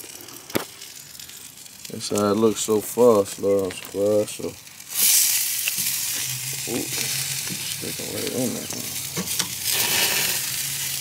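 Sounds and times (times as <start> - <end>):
meat sizzling on charcoal grill: 0.0 - 11.0.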